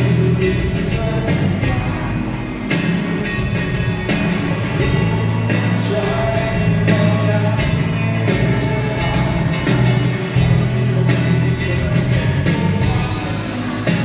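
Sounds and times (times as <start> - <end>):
man singing: 0.0 - 2.7, 4.1 - 14.0
bass guitar: 0.0 - 14.0
drums: 0.0 - 14.0
electric guitar: 0.0 - 14.0
keyboard: 0.0 - 14.0.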